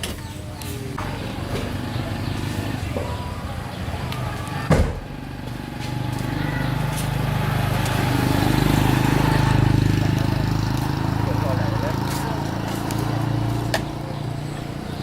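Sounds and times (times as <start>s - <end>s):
vehicle engine running: 0.9s - 15.0s.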